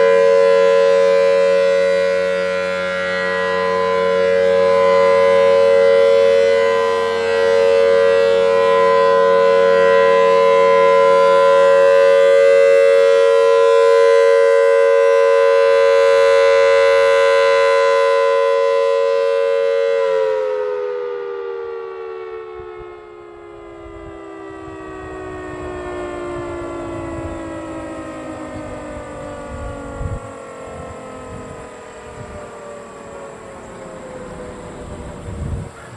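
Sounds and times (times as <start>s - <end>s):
warning siren: 0.0s - 35.9s.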